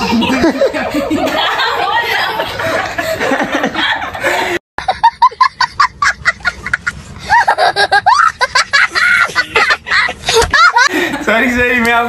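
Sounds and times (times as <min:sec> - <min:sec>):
man and child laughing: 0:00.0 - 0:11.2
young boy laughing hard: 0:00.0 - 0:11.2.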